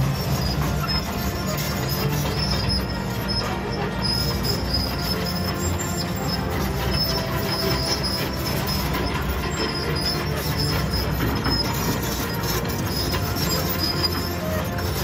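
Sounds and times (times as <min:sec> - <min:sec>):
excavator engine rumble: 0:00.0 - 0:15.0
thin high squeal: 0:00.0 - 0:15.0.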